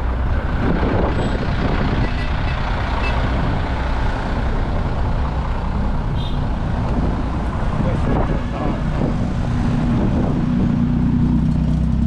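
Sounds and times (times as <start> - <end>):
heavy truck engine rumbling: 0.0 - 12.0.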